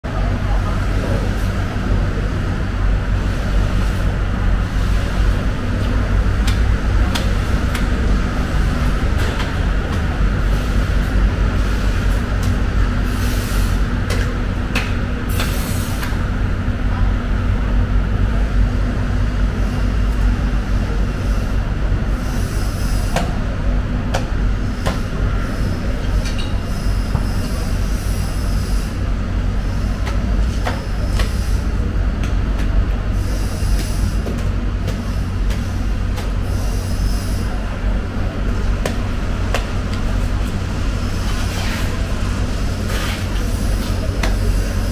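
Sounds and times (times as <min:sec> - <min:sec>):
low machinery rumble: 0:00.0 - 0:44.9.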